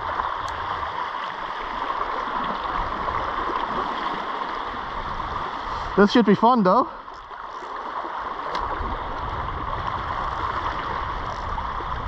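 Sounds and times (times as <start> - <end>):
sea water washing against rocks: 0.0 - 12.0.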